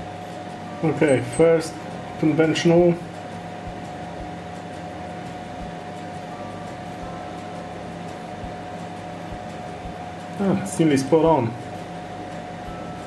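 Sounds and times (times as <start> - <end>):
mechanical hum with steady tone: 0.0 - 13.0.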